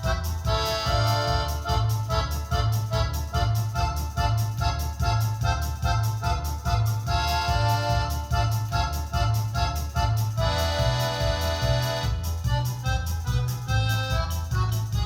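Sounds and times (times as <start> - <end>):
electronic keyboard instrumental: 0.0 - 15.0.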